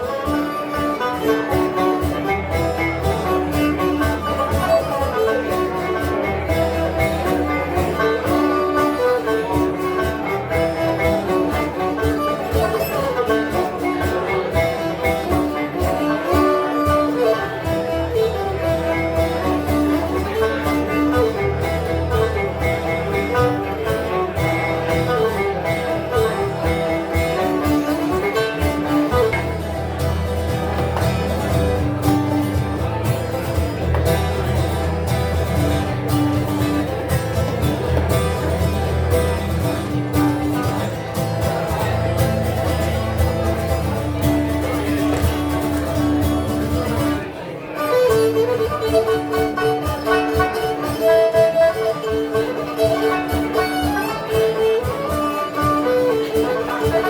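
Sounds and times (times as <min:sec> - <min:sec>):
acoustic band with guitar and banjo: 0:00.0 - 0:57.0.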